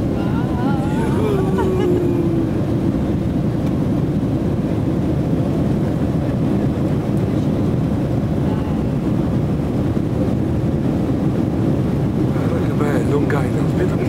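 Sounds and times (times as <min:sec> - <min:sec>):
jet engines and rushing air: 0:00.0 - 0:14.0.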